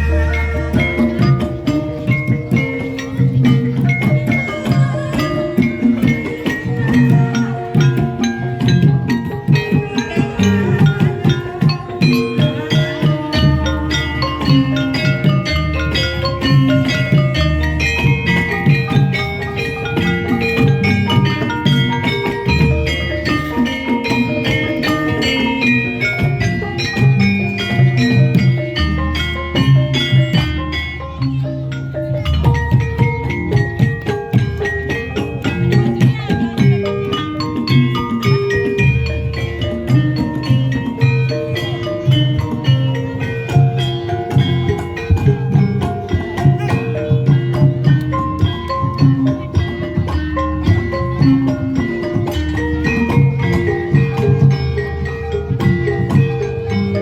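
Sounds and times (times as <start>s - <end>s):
hand drums: 0.0s - 57.0s
metallophones and gong-chimes: 0.0s - 57.0s.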